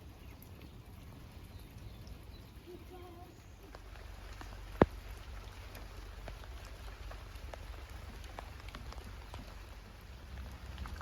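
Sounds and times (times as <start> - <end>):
rain drops ticking on hard surfaces: 0.0 - 11.0
rain hiss: 0.0 - 11.0.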